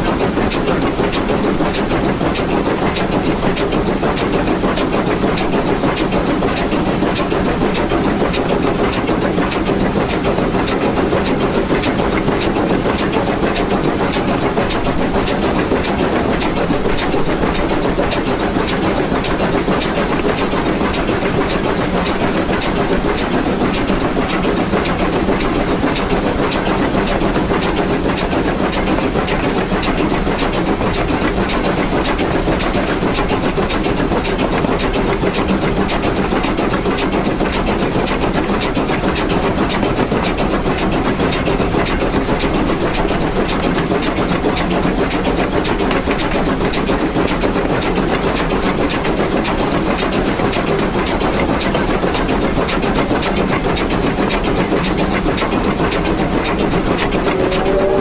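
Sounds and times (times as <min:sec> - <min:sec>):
steam locomotive working hard: 0:00.0 - 0:58.0.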